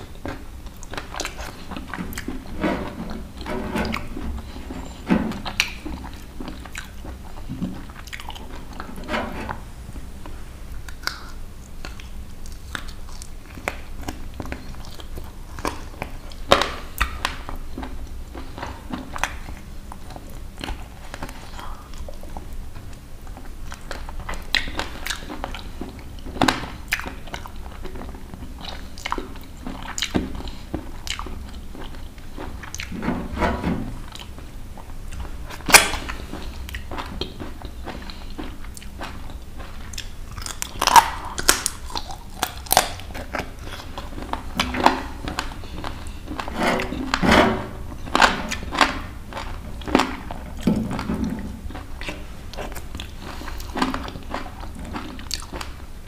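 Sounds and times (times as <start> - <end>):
chewing and biting chicken: 0.0 - 8.9, 10.8 - 33.0, 34.0 - 47.1, 48.0 - 55.9.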